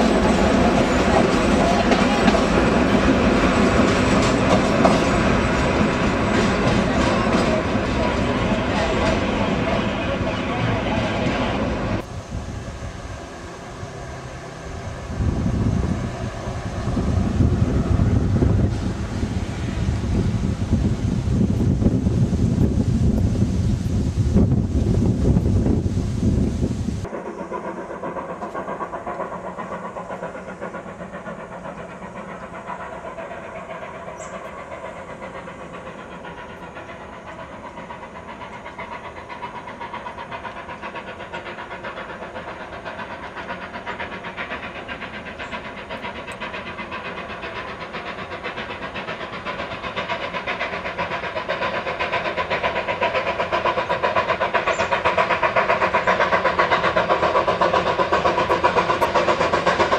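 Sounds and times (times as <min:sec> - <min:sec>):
steam locomotive exhaust beating: 0:00.0 - 0:59.9.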